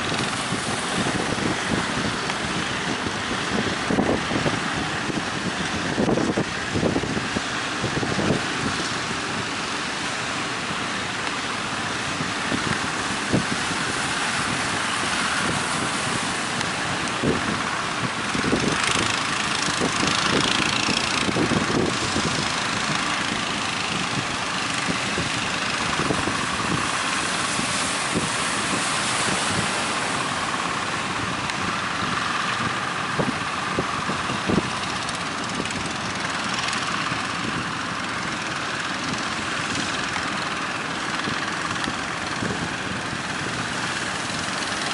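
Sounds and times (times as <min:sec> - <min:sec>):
boat engine running: 0:00.0 - 0:44.9
rushing water: 0:00.0 - 0:44.9
wind: 0:00.0 - 0:44.9.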